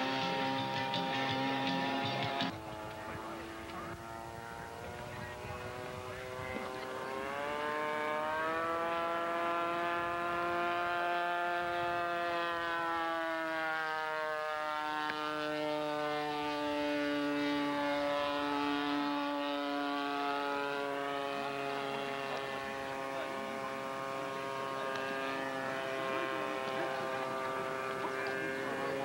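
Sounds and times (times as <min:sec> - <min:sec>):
model airplane engine buzzing: 0:00.0 - 0:29.0.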